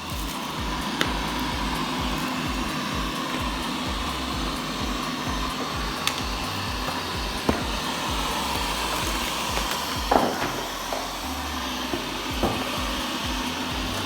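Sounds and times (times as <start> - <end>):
robot vacuum cleaner whirring: 0.0 - 14.0.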